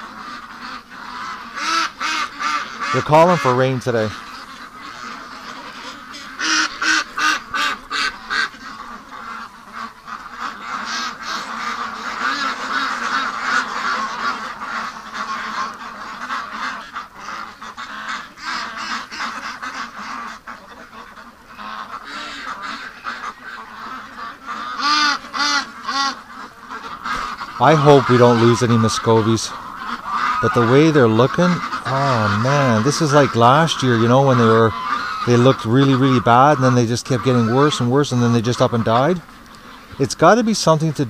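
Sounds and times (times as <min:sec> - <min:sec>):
ducks quacking: 0:00.0 - 0:41.0.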